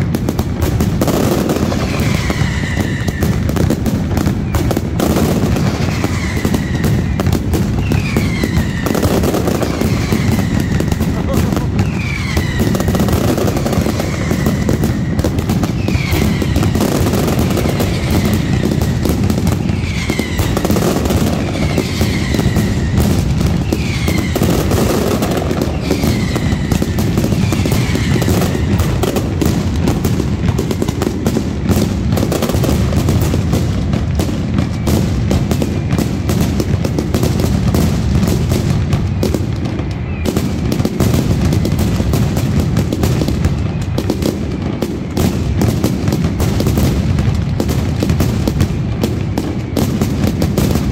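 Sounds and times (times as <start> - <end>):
rapid firecracker bangs: 0.0 - 50.9
whistling fireworks: 0.0 - 50.9.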